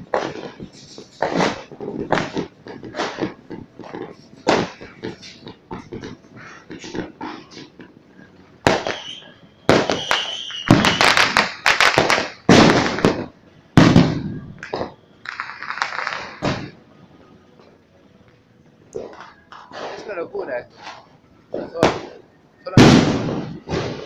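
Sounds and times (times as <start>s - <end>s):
fireworks bangs: 0.0s - 17.8s, 18.8s - 24.0s
fireworks crackling: 0.0s - 24.0s.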